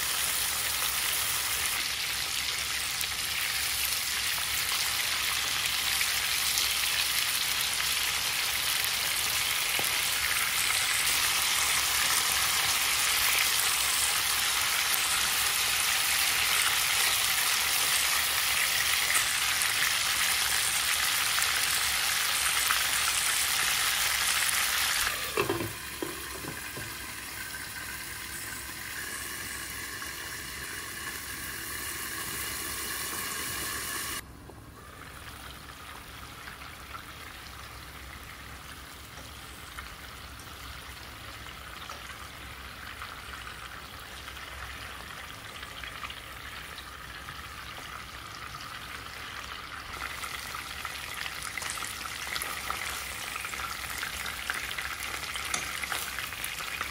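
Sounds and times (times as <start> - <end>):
food sizzling in a pan: 0.0 - 34.2, 34.8 - 56.9.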